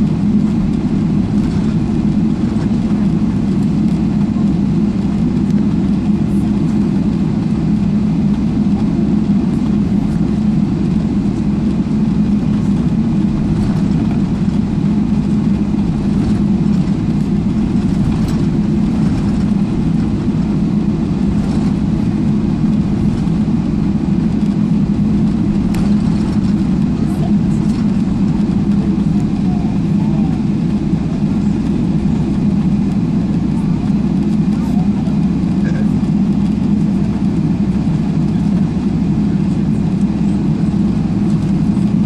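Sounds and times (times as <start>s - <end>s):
airplane cabin rumble: 0.0s - 42.0s.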